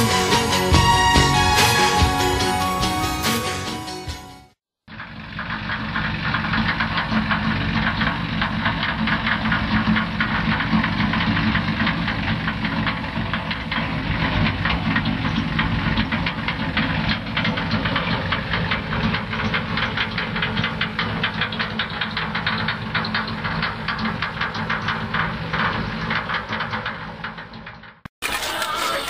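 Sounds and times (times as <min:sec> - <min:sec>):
tractor engine running: 0:00.0 - 0:29.0
trailer rattling clatter: 0:00.0 - 0:29.0.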